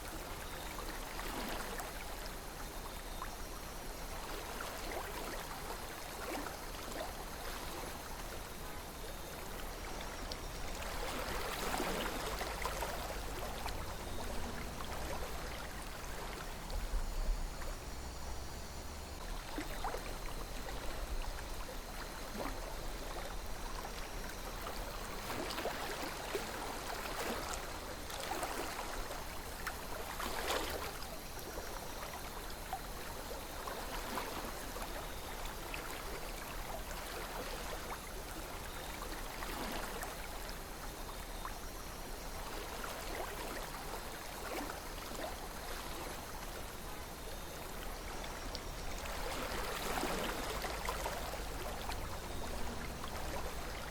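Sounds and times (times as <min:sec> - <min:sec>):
water splashes and gurgles: 0:00.0 - 0:53.9.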